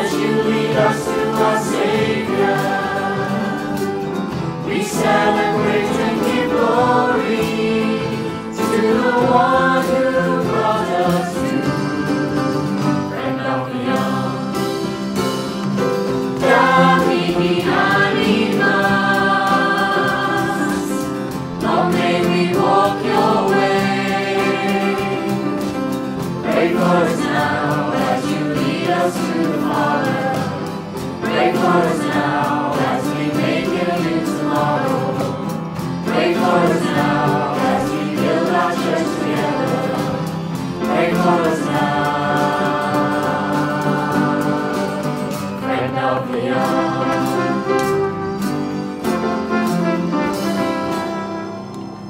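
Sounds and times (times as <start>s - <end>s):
choir singing a slow hymn: 0.0s - 15.3s, 16.3s - 48.4s
small band accompaniment: 0.0s - 52.0s.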